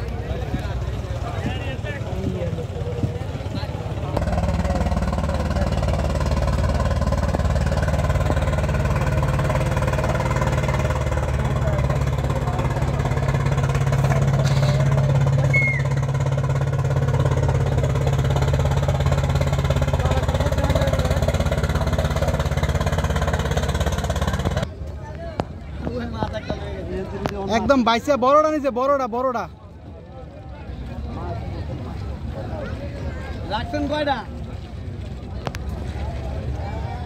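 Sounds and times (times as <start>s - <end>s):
boat engine humming: 0.0s - 25.7s, 28.2s - 37.0s.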